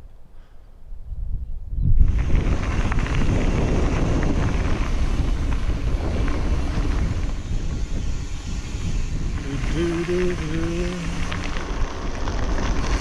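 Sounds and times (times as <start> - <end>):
wind buffeting microphone: 0.8 - 13.0.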